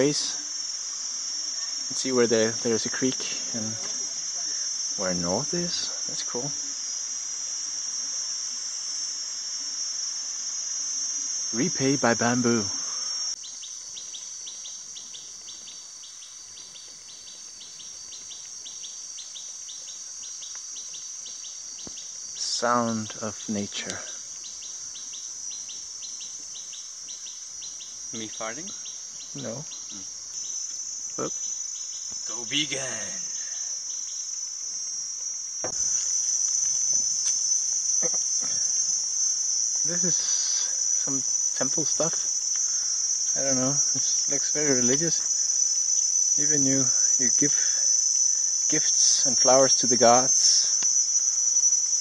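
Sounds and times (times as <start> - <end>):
high-pitched insect drone: 0.0 - 52.0.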